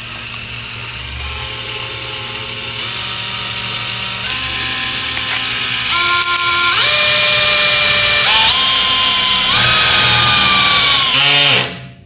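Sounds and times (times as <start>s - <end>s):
cordless drill whining into steel: 0.0s - 11.7s.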